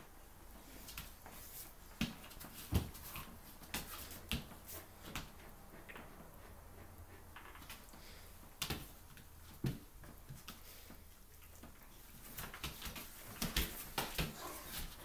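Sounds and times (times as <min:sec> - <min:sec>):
dogs playing knocks and scuffling: 0:00.6 - 0:15.0.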